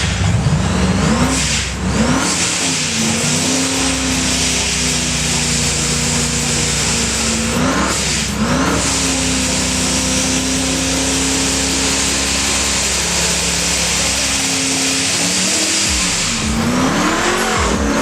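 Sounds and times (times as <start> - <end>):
drag racing engine at high revs: 0.0 - 18.0.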